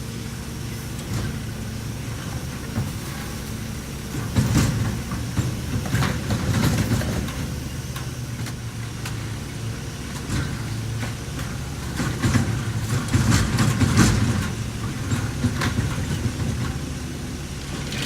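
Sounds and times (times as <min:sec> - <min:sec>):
garbage truck engine running: 0:00.0 - 0:18.0.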